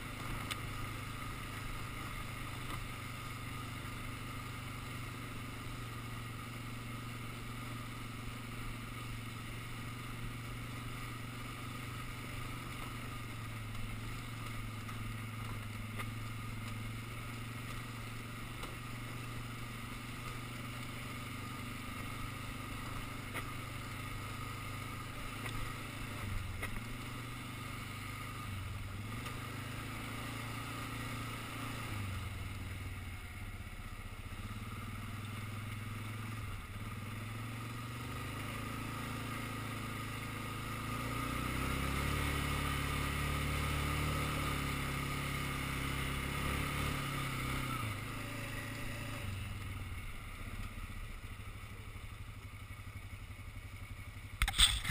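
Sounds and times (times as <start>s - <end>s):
quad engine running: 0.0s - 54.9s.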